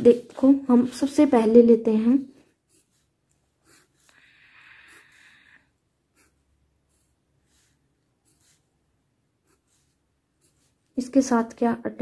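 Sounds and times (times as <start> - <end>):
pen scratching on paper: 0.0 - 11.3.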